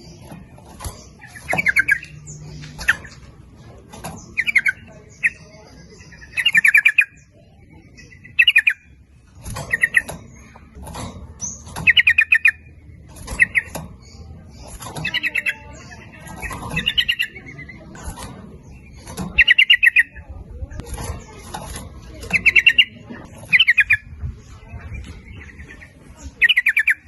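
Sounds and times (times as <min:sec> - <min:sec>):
birds chattering calls: 0:00.0 - 0:27.0.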